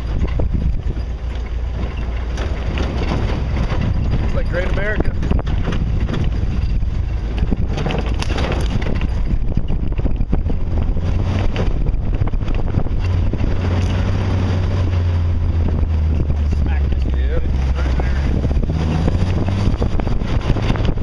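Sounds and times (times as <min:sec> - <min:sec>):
body and suspension rattling: 0:00.0 - 0:21.0
engine running low: 0:00.0 - 0:21.0.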